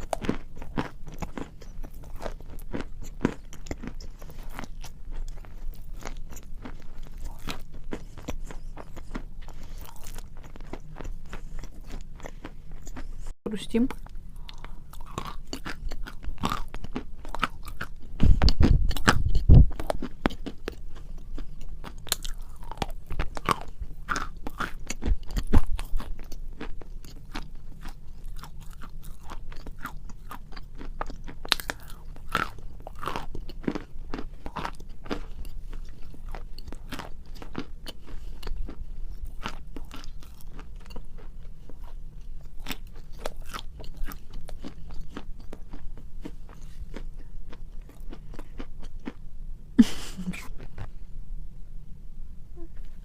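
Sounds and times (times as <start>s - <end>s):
chalk crunching while chewed: 0.0s - 13.3s, 13.9s - 49.2s.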